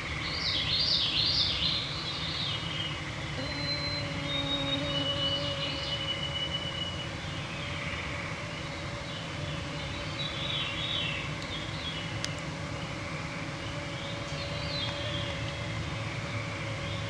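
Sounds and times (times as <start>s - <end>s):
songbirds singing: 0.0s - 17.0s
mosquito whine: 3.3s - 17.0s.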